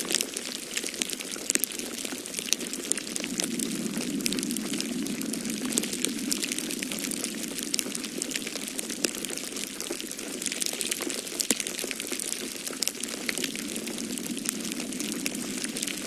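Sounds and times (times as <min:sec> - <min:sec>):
wood fire crackling: 0:00.0 - 0:16.0
storm wind whooshing: 0:02.0 - 0:10.9, 0:11.9 - 0:16.0.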